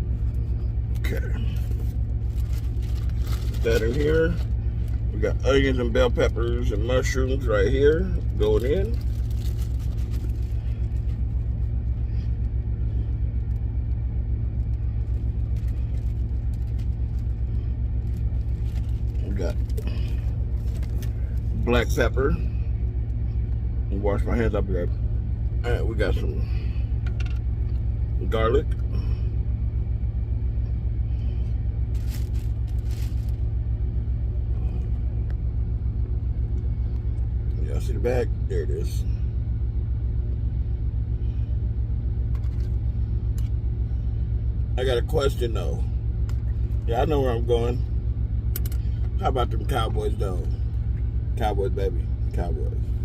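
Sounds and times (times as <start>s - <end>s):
truck engine idling: 0.0s - 53.0s.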